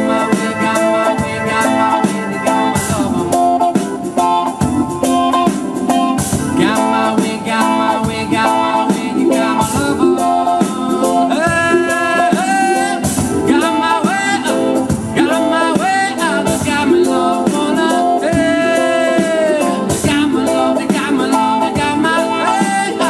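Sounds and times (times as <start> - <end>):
person singing long notes: 0.0 - 4.6, 6.5 - 23.0
live band playing: 0.0 - 23.0.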